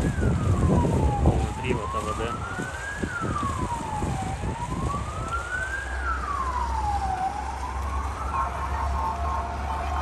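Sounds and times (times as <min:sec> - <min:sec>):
siren wailing: 0:00.0 - 0:10.0.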